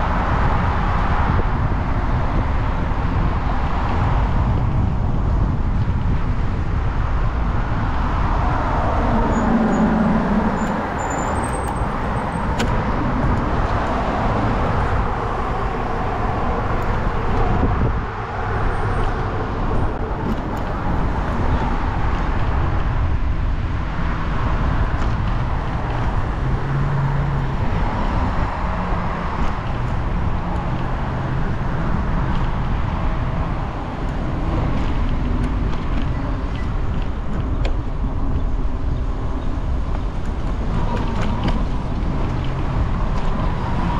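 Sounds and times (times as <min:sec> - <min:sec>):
cars passing: 0:00.0 - 0:43.9
low traffic rumble: 0:00.0 - 0:43.9.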